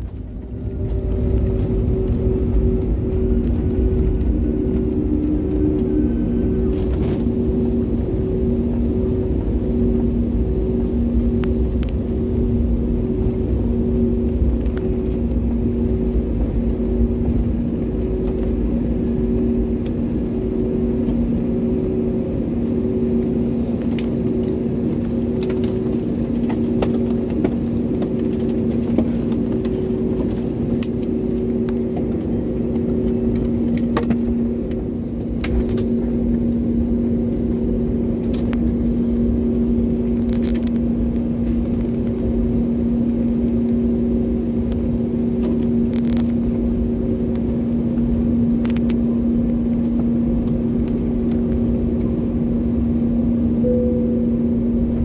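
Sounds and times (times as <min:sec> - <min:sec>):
jet engine hum: 0:00.0 - 0:55.0
low rumble: 0:00.0 - 0:55.0.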